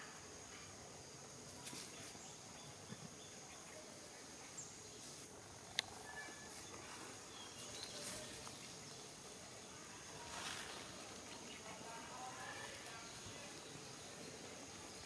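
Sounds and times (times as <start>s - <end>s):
rustling of dry leaves: 1.4s - 2.9s, 3.6s - 15.0s.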